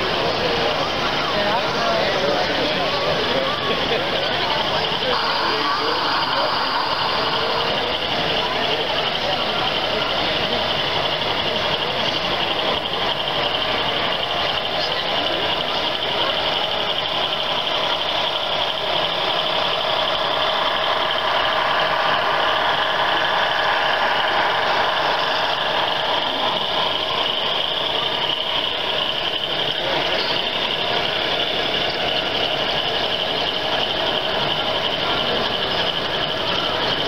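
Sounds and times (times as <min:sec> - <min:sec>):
diesel engine rumble: 0:00.0 - 0:37.0.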